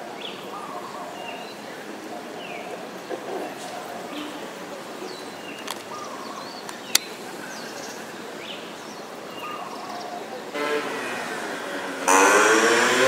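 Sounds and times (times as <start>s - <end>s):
birds chirping: 0.0s - 12.1s
street ambience: 0.0s - 13.0s.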